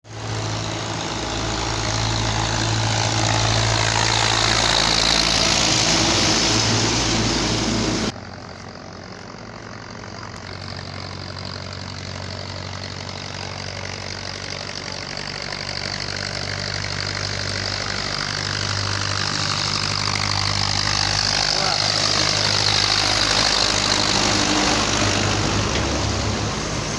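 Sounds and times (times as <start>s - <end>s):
tractor diesel engine humming: 0.0s - 26.9s.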